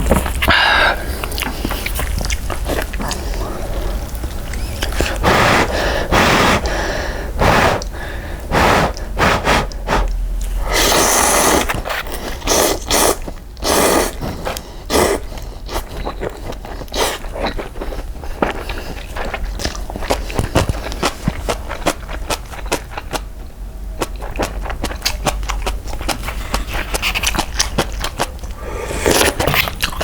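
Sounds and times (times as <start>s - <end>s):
chewing: 0.0s - 30.0s
slurping noodles: 0.9s - 22.8s, 26.1s - 30.0s.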